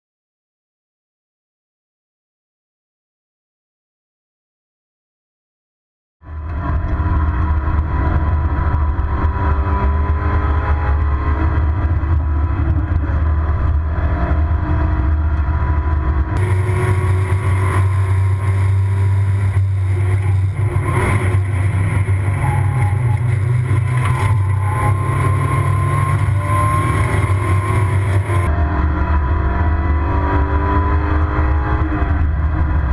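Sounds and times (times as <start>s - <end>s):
road and wind noise: 6.2s - 32.9s
car engine running hard: 6.3s - 32.9s.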